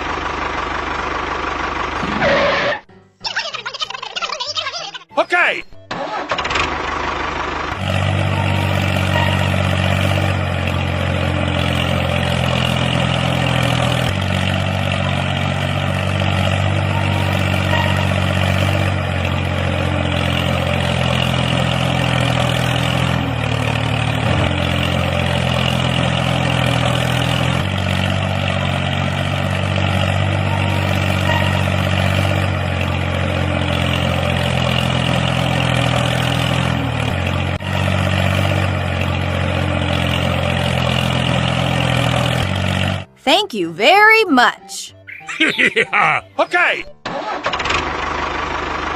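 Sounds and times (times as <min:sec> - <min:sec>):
engine idling: 0:00.0 - 0:02.8, 0:05.8 - 0:43.2, 0:47.0 - 0:48.9.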